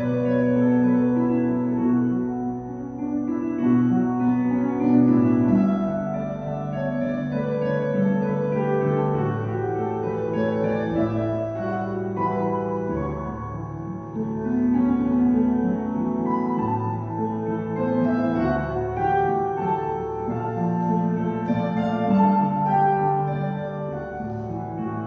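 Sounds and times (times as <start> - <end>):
slow keyboard chords: 0.0 - 25.0.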